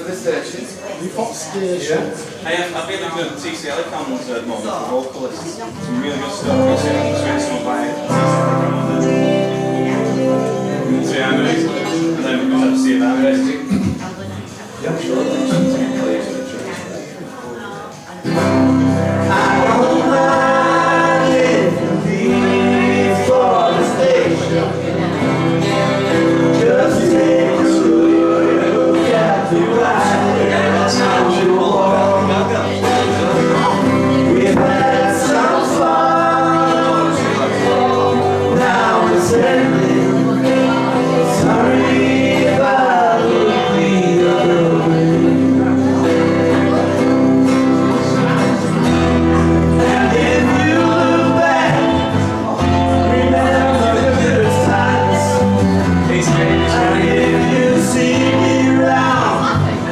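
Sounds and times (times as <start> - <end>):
small band playing live: 5.7 - 59.9
men singing: 6.4 - 13.7, 18.3 - 59.9.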